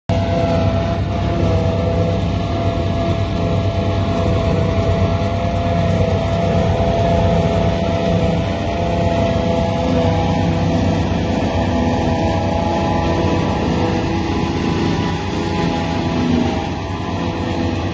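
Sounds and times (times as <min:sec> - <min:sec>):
harvester engine drone: 0:00.1 - 0:17.9
steady machine whine: 0:00.1 - 0:17.9.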